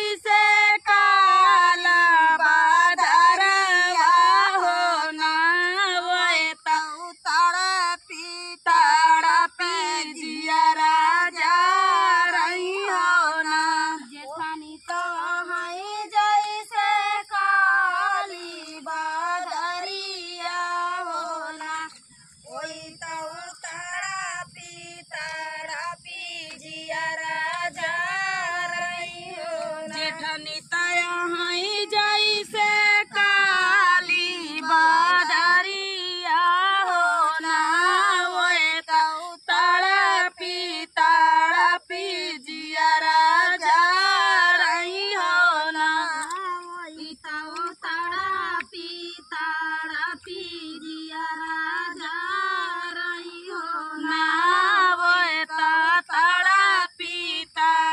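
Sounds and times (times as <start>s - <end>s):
woman singing folk song: 0.0s - 57.9s.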